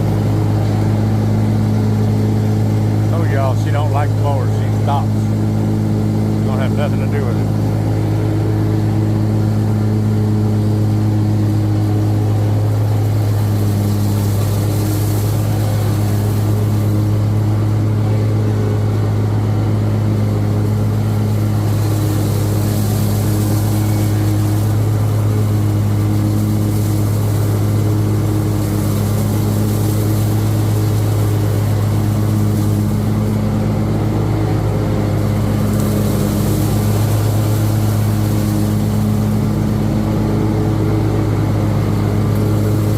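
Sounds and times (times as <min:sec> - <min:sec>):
riding lawnmower engine running: 0:00.0 - 0:42.9.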